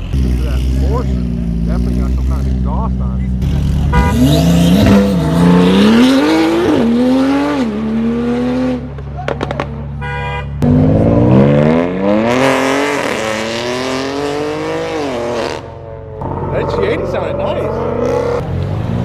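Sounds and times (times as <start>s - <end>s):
car accelerating: 0.0s - 9.9s, 10.6s - 19.0s
sports car engines revving: 0.0s - 10.0s, 10.6s - 19.0s.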